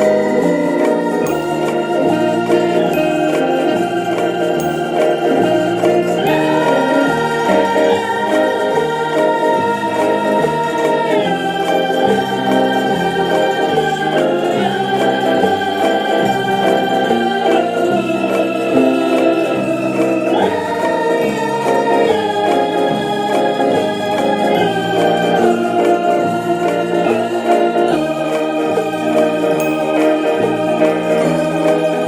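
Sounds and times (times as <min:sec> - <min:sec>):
electronic organ chords: 0:00.0 - 0:32.0.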